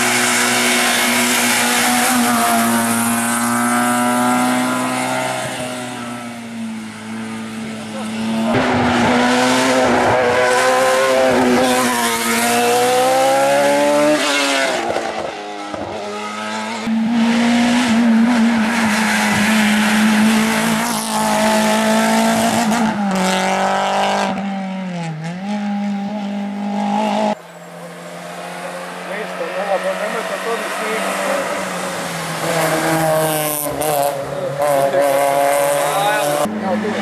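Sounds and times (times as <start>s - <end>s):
race car engine at high revs: 0.0s - 37.0s.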